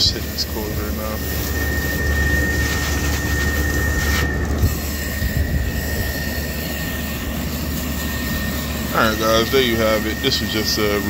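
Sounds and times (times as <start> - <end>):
hose spray hissing: 0.0 - 11.0.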